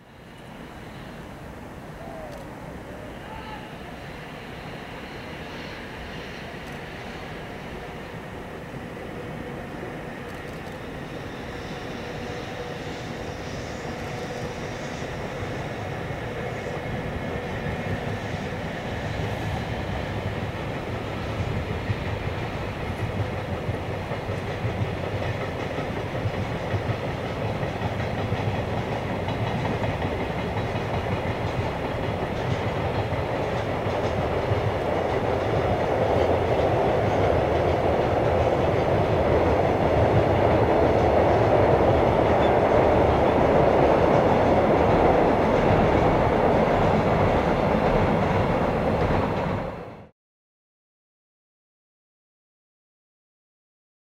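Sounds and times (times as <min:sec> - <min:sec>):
train wheels rumbling on rails: 0:00.0 - 0:50.1.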